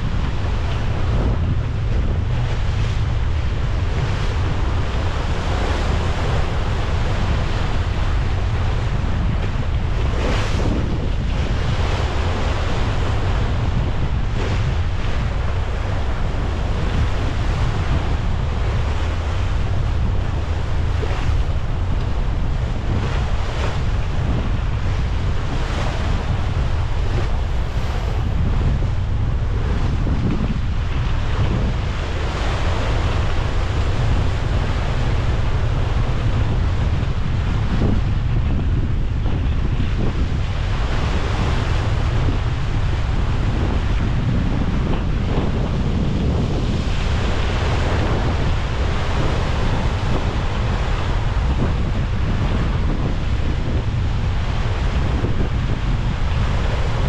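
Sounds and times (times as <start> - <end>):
seawater rushing and splashing: 0.0 - 57.0
wind buffeting microphone: 0.0 - 57.0.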